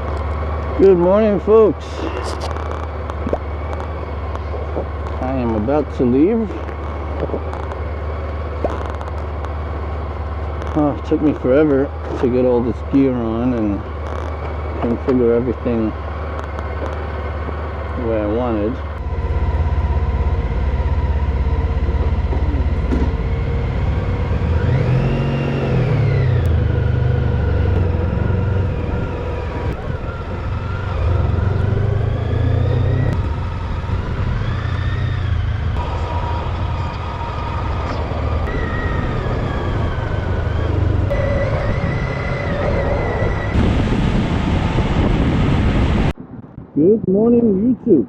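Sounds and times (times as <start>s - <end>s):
motorcycle engine revving: 0.0s - 46.2s
road noise: 0.0s - 48.0s.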